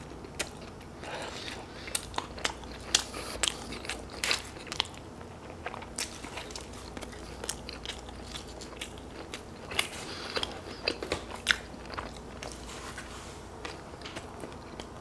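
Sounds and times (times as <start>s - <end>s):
biting and chewing food: 0.0s - 15.0s.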